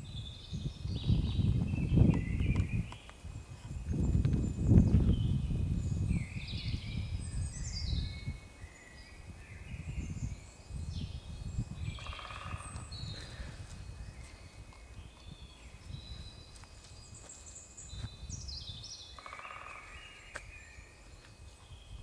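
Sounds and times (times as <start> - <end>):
songbirds singing and chirping: 0.0 - 22.0.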